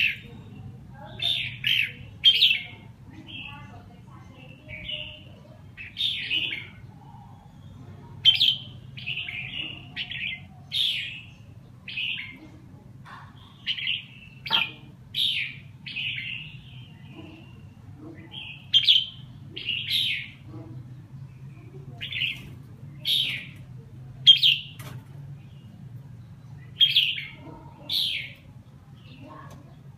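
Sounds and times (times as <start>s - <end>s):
bird chirping: 0.0s - 12.5s, 13.3s - 29.8s.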